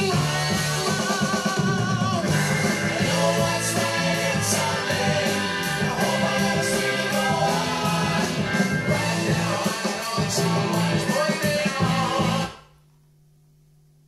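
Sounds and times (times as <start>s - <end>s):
song with singing and band: 0.0s - 12.6s.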